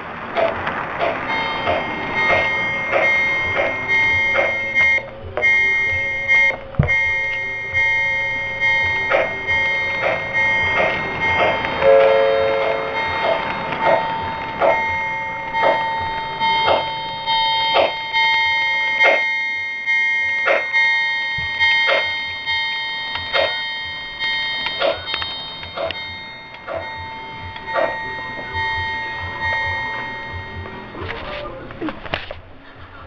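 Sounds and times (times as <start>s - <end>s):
train cars rolling on track: 0.0s - 33.0s
model train bell ringing: 0.3s - 31.4s.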